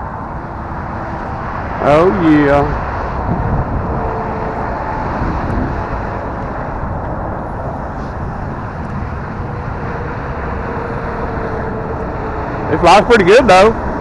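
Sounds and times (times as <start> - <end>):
wind on microphone: 0.0 - 12.8.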